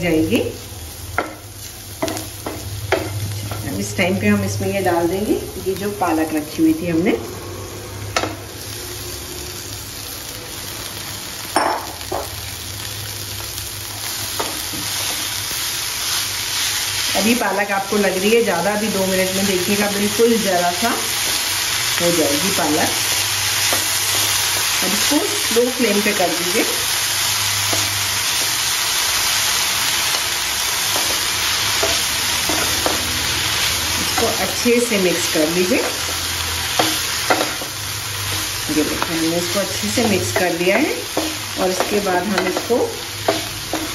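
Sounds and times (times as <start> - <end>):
spinach sizzling in frying pan: 0.0 - 43.9.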